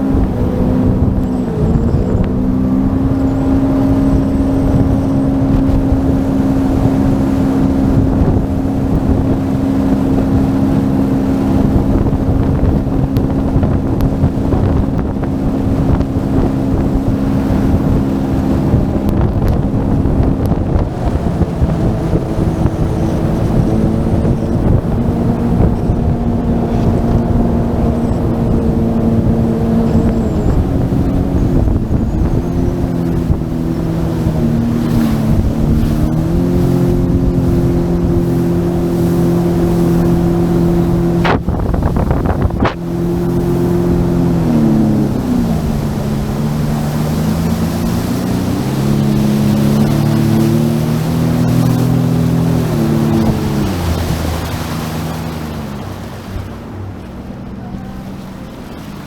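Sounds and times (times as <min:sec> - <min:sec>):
jet ski engine running: 0:00.0 - 0:59.0
wind buffeting microphone: 0:00.0 - 0:59.0.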